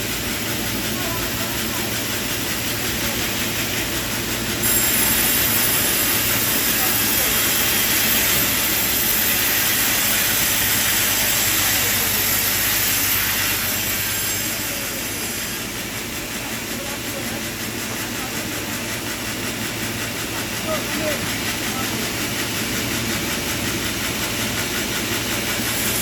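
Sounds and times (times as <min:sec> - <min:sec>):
saw hissing through timber: 0:00.0 - 0:26.0.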